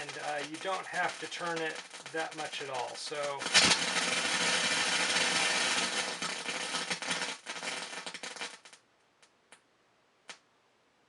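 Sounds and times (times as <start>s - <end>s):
electronic crackling noise: 0.0s - 9.4s
light isolated pops: 0.0s - 9.6s.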